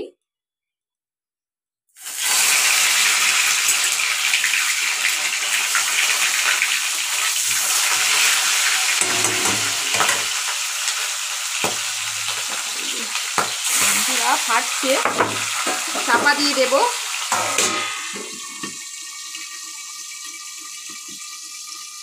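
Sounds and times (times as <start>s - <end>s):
fish sizzling in hot oil: 2.0s - 22.0s.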